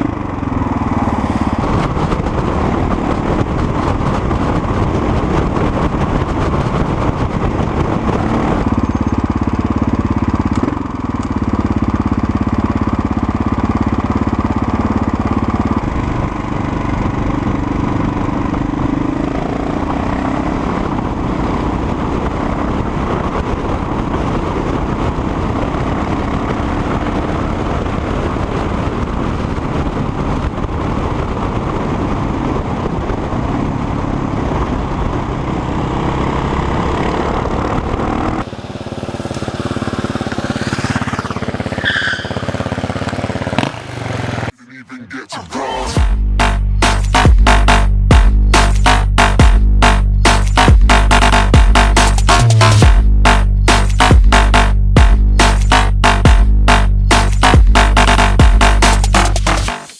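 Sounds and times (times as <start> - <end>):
motorcycle engine running: 0.0 - 44.6, 46.0 - 59.8.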